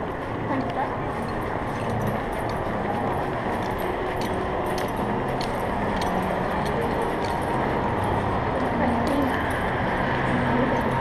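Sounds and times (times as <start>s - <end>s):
dull background noise: 0.0s - 11.0s
dog chain collar clinking: 1.1s - 11.0s.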